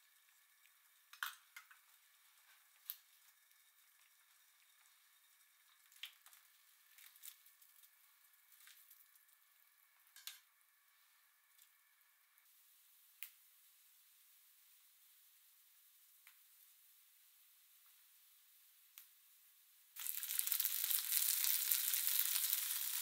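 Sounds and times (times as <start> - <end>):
pot simmering hiss: 0.0 - 23.0.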